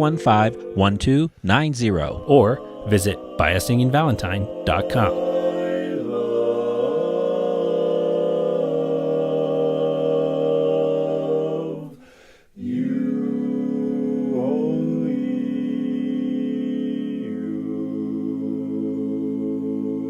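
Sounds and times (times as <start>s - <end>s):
a cappella singing in harmony: 0.0s - 20.0s.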